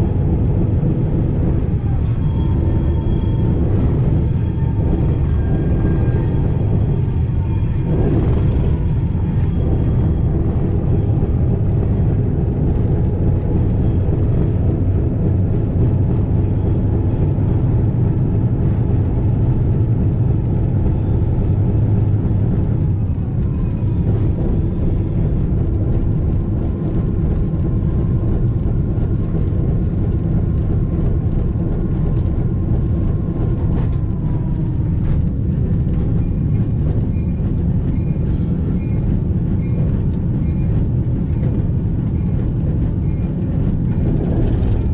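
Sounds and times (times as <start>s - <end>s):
diesel locomotive engine rumble: 0.0s - 44.9s.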